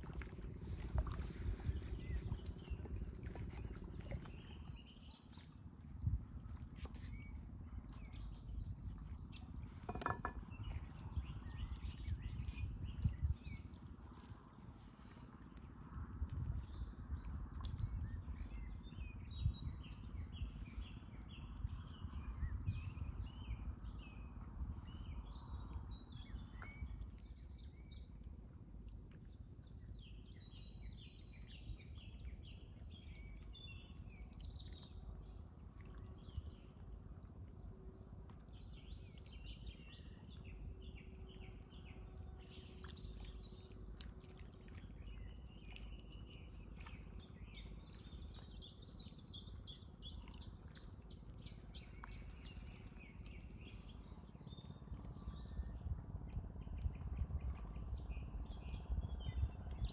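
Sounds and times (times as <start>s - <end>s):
songbirds chirping and trilling: 0.6s - 59.9s.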